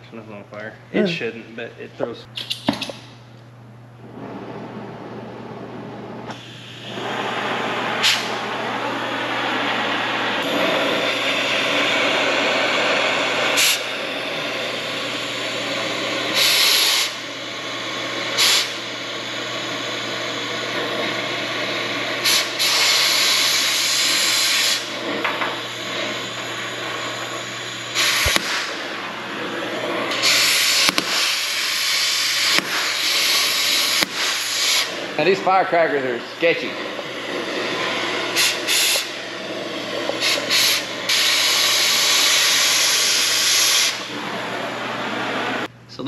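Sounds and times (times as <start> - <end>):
cutting torch hissing: 4.0 - 45.7.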